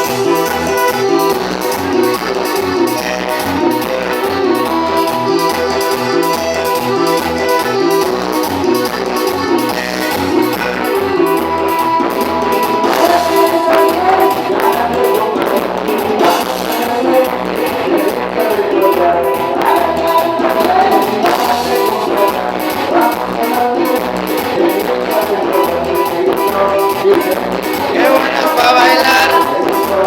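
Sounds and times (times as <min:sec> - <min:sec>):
band music with guitar brass drums: 0:00.0 - 0:30.0.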